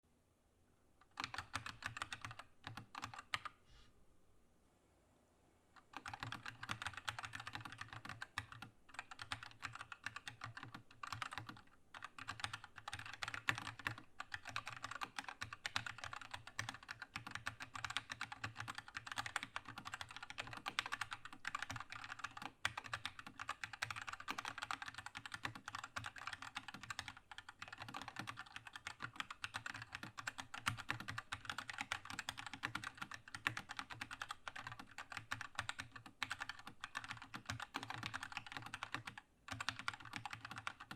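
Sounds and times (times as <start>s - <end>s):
mechanical keyboard typing: 1.0s - 3.5s, 5.8s - 40.9s.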